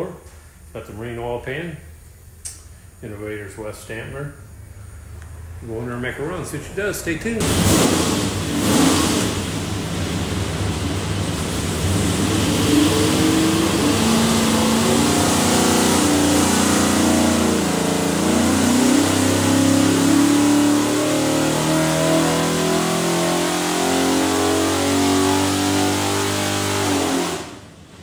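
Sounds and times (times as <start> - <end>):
engine running loud under load: 4.5 - 28.0.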